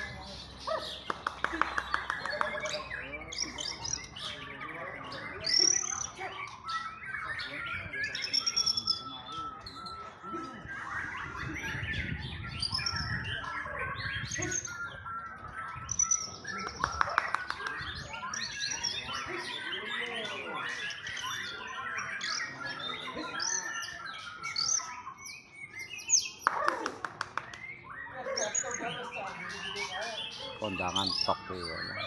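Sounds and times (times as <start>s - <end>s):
birds singing in chorus: 0.0s - 32.0s.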